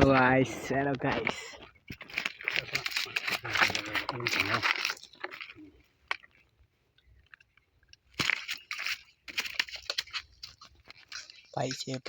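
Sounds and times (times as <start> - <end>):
crisp food being crunched: 1.2 - 6.3, 7.3 - 12.0.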